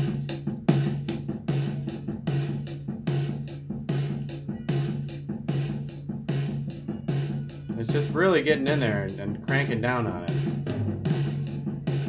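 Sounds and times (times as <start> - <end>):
compressed drum beat: 0.0 - 12.0.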